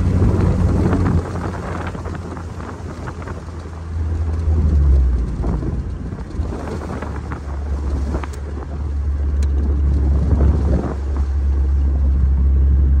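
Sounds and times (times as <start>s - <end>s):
car engine and road rumble: 0.0s - 13.0s
wind buffeting microphone: 0.0s - 13.0s.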